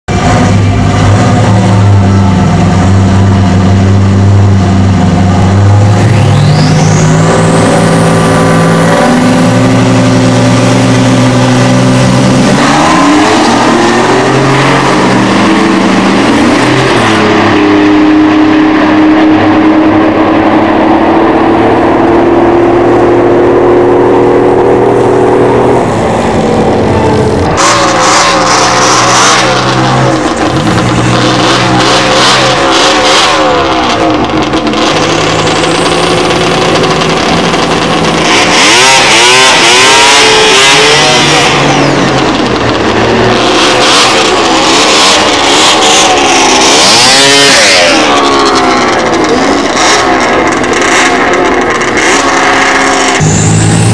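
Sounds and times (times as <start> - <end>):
race car engines at full throttle: 0.0 - 53.9
rush of noise: 0.1 - 53.9.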